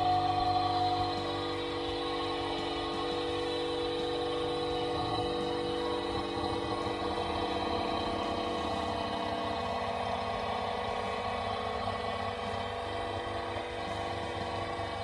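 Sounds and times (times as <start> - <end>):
vacuum pump running: 0.0 - 15.0.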